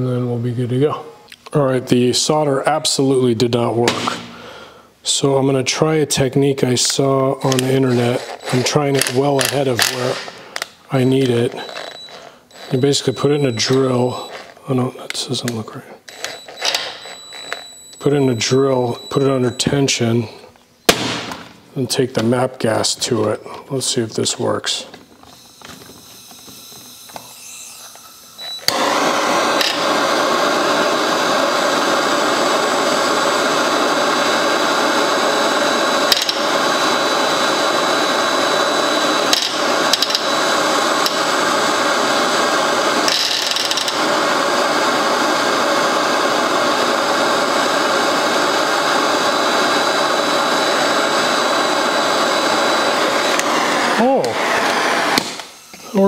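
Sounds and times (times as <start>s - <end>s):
gas torch flame hissing: 3.8s - 4.8s, 6.6s - 17.6s, 20.9s - 56.0s.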